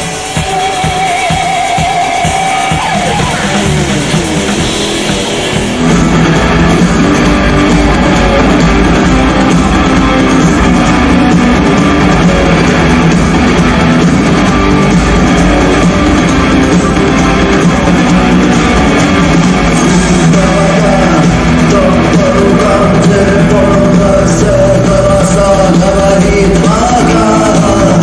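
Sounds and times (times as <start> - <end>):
instrumental guitar rock music: 0.0 - 28.0.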